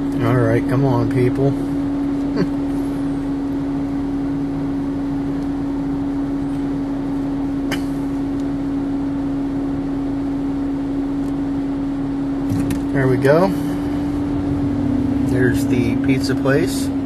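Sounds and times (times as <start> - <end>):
car engine idling: 0.0 - 17.0
low road noise: 0.0 - 17.0.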